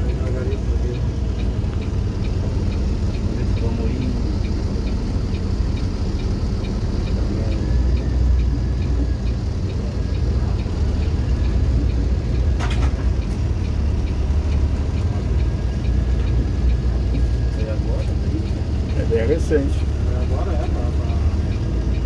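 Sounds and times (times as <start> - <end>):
light regular ticking: 0.0 - 22.0
vehicle engine from inside cab: 0.0 - 22.0.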